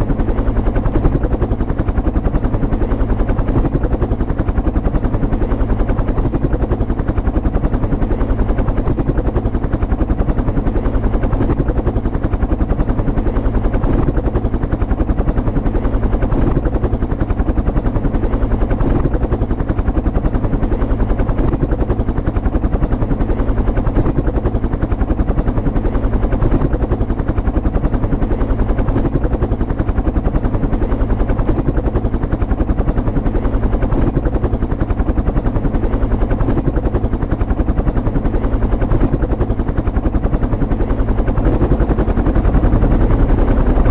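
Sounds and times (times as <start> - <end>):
helicopter rotor thudding: 0.0 - 43.9
turbine running noise: 0.0 - 43.9.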